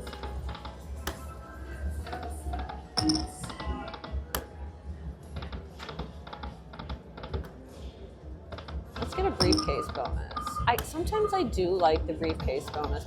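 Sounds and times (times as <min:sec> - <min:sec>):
casino background noise: 0:00.0 - 0:13.0.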